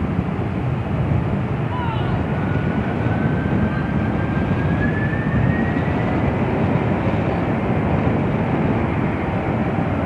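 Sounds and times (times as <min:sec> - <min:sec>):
jet engines rumbling: 0:00.0 - 0:10.0
rising engine whine: 0:00.0 - 0:10.0.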